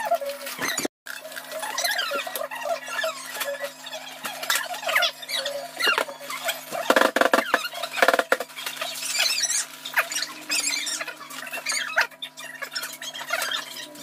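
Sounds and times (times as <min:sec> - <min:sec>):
high-pitched squeaky chatter: 0:00.0 - 0:14.0.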